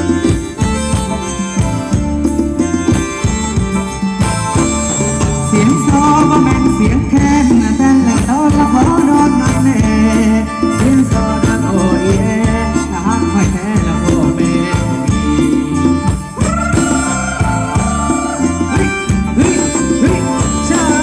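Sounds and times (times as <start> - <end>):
live dance band music: 0.0 - 21.0.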